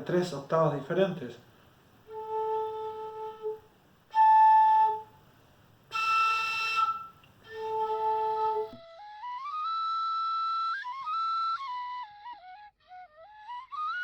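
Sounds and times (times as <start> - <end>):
cane flute notes: 2.0 - 5.3, 5.9 - 14.0.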